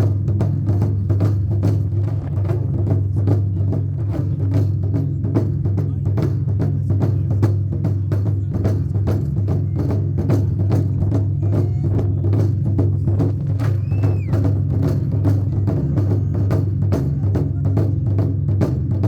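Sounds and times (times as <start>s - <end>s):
rapid drumming: 0.0s - 19.0s.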